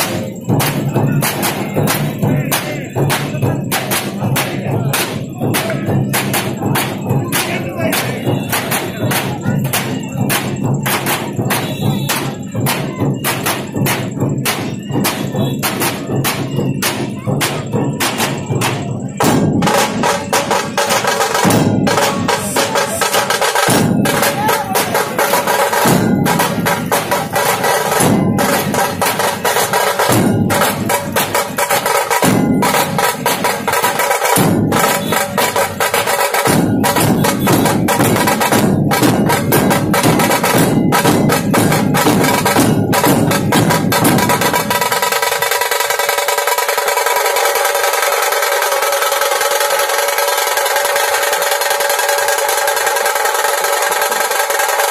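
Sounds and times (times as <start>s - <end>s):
deeper drum: 0.0s - 54.9s
fast sharp drum strokes: 0.0s - 54.9s.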